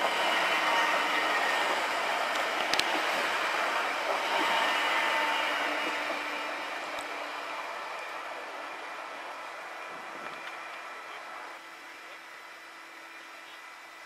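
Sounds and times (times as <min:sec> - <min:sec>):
train rolling on rails: 0:00.0 - 0:14.0.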